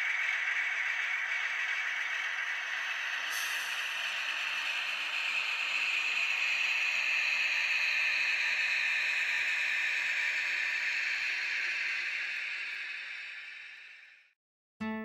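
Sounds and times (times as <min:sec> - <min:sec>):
model train rolling on track: 0:00.0 - 0:13.9.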